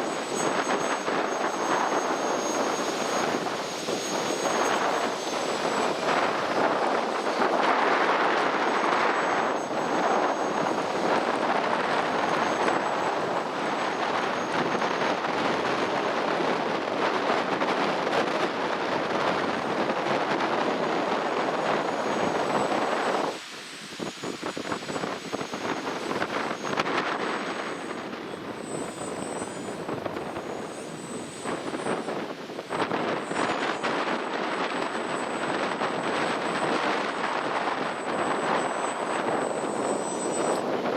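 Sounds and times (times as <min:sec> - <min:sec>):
model airplane motor drone: 0:00.0 - 0:40.9
thin high whine: 0:00.0 - 0:40.9.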